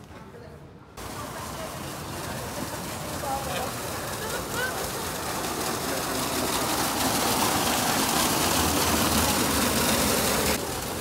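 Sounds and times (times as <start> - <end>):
water splashing in fountain basin: 1.0 - 11.0.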